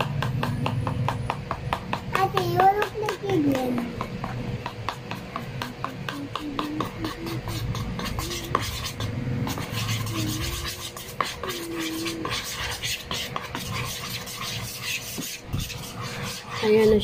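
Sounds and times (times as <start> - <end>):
whisk scraping a bowl: 0.0 - 17.0.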